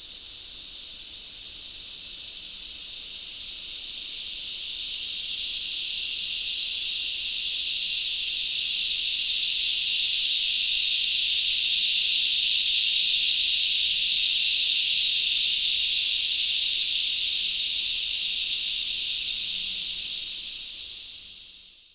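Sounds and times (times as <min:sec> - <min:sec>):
high-pitched insect chorus buzzing: 0:00.0 - 0:21.9.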